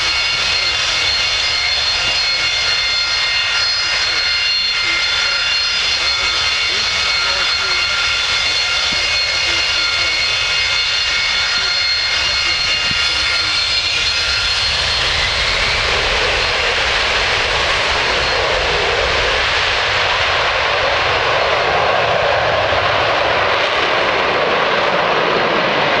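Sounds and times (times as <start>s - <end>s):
jet engine roar at takeoff: 0.0s - 26.0s
jet turbine whine: 0.0s - 26.0s.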